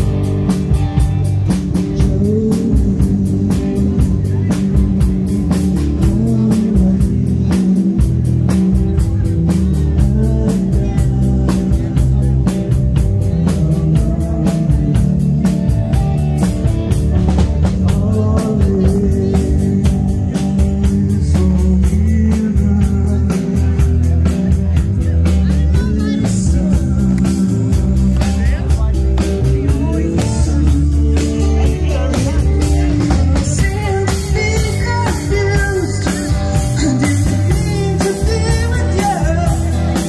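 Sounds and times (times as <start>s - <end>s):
bass guitar: 0.0s - 40.0s
drum kit beat: 0.0s - 40.0s
electric guitar: 0.0s - 40.0s.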